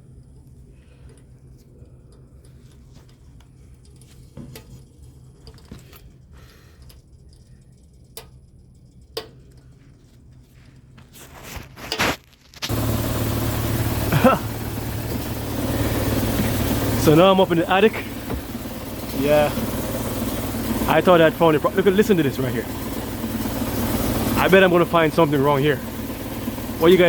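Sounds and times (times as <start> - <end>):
blower running with low hum: 0.0 - 27.0.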